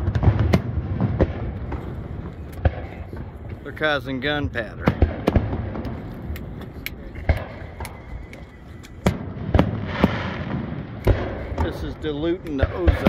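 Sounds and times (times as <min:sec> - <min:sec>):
fireworks booming: 0:00.0 - 0:08.2, 0:09.0 - 0:13.0.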